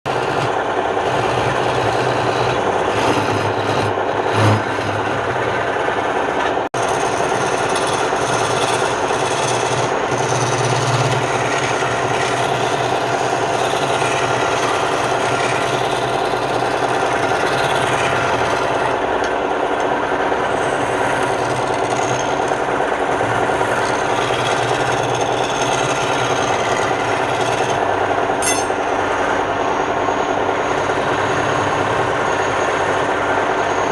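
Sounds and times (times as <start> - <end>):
wood lathe cutting wood: 0.0 - 28.3.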